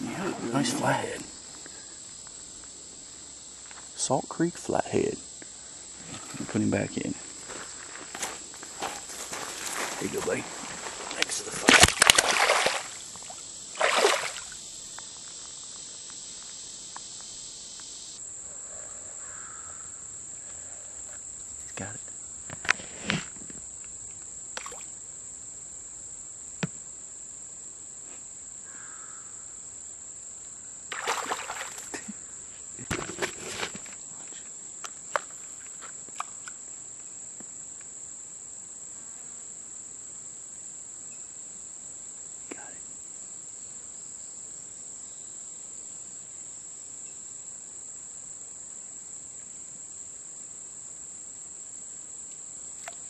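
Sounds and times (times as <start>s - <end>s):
insect chorus drone: 0.0s - 53.0s.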